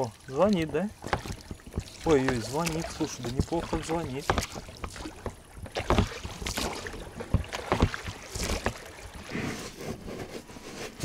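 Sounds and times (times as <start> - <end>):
oars splashing and knocking: 0.0 - 11.0.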